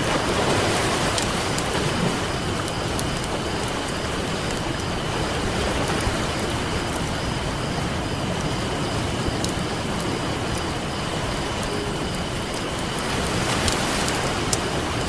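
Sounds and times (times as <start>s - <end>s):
ocean surf washing on beach: 0.0s - 15.0s
campfire crackling and popping: 0.1s - 15.0s.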